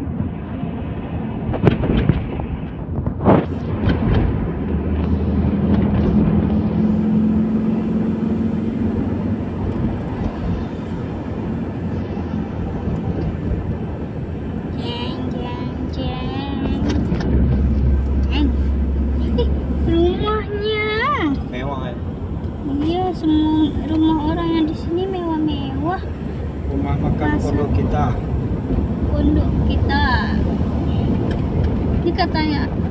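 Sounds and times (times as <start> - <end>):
car engine and tyre noise: 0.0 - 32.9.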